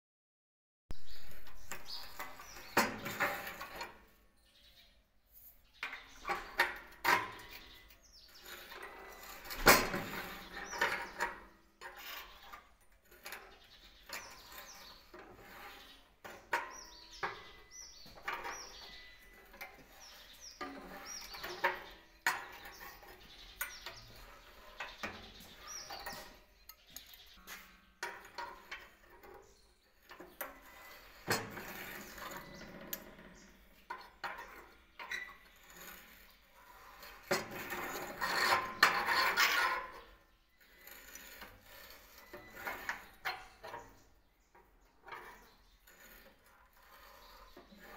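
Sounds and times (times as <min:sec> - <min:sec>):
metal scraping rub: 0:00.9 - 0:04.2, 0:05.2 - 0:47.9.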